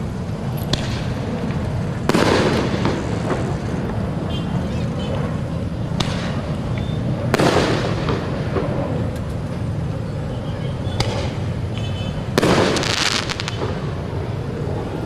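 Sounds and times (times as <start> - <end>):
fireworks bangs and crackling: 0.0 - 10.2, 10.8 - 15.0.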